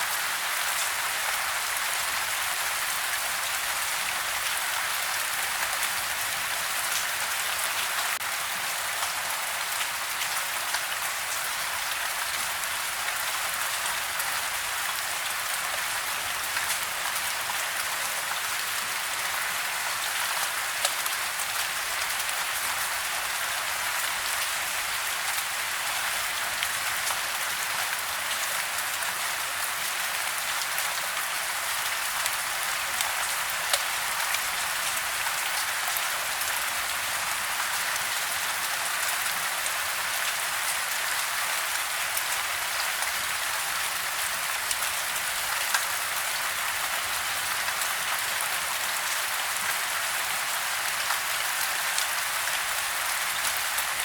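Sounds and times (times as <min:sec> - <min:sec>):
rain falling on a house: 0:00.0 - 0:54.0.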